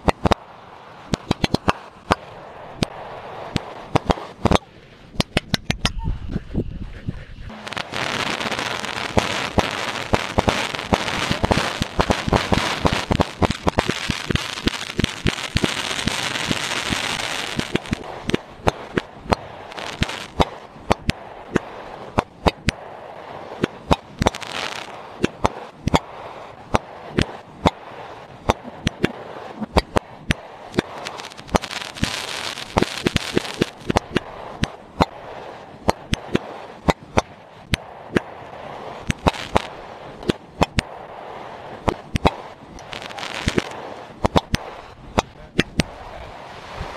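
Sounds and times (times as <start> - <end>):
fireworks crackling and popping: 0.0 - 46.9.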